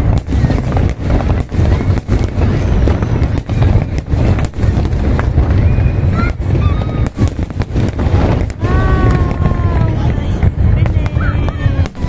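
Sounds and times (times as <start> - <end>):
crowd voices: 0.0 - 12.0
fireworks booming and crackling: 0.0 - 12.0.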